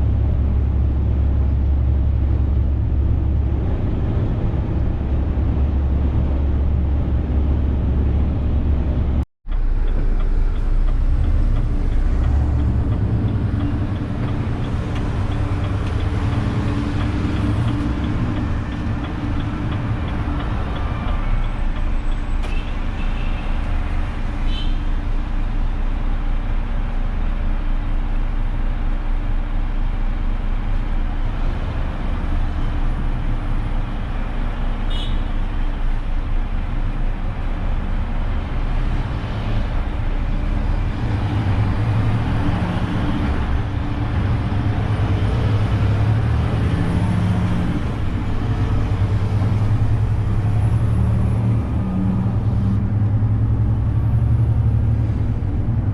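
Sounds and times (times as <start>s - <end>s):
road noise: 0.0s - 55.9s.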